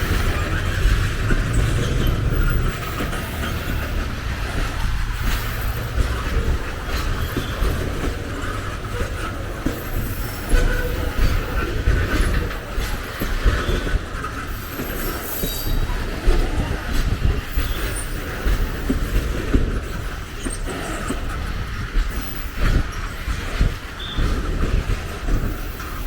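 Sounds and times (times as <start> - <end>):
train wagons rolling: 0.0 - 26.0.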